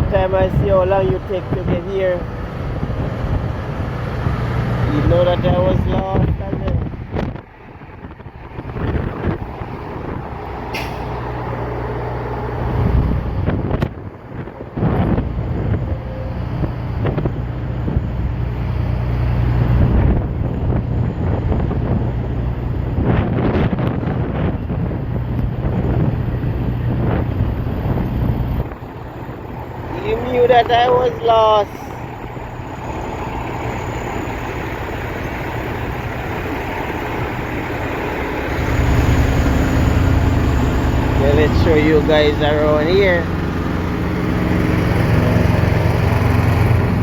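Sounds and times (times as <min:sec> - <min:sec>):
traffic noise: 0:00.0 - 0:47.0
trucks droning: 0:00.0 - 0:47.0
wind buffeting microphone: 0:00.0 - 0:47.0.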